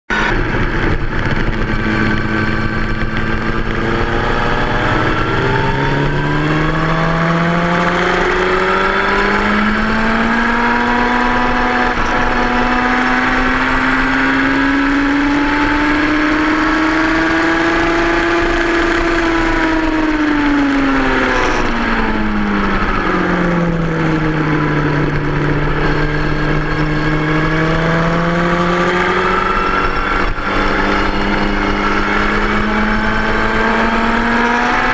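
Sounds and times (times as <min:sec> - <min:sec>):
motorcycle engine running hard: 0:00.1 - 0:34.9.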